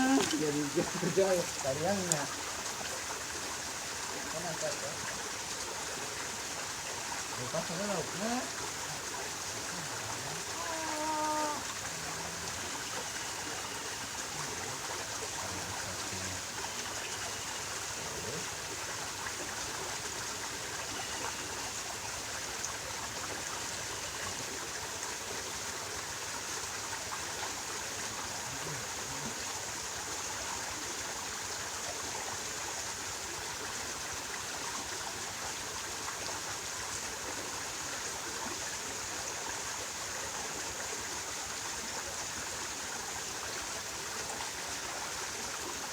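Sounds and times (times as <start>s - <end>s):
flowing stream water: 0.0s - 45.9s.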